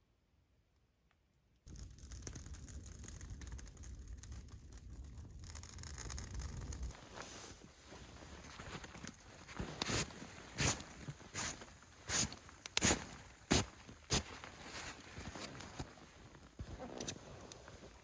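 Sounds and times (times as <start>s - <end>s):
rustling and crackling handling noise: 1.7s - 18.0s.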